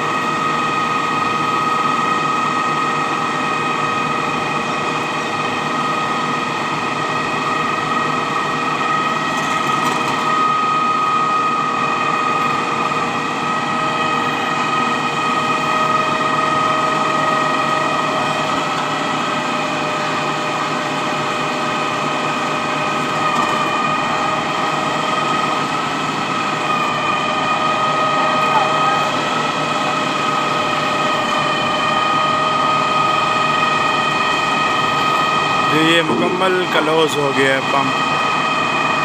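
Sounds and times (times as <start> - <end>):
concrete pump engine running: 0.0 - 39.0
high-pitched whine: 0.0 - 39.0.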